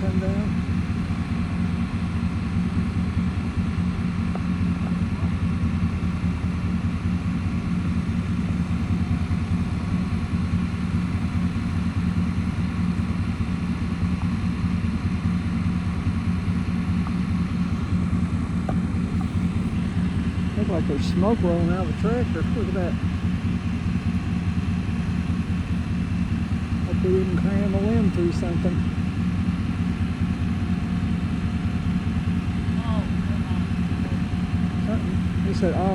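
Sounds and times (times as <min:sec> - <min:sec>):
vehicle engine idling: 0:00.0 - 0:35.9.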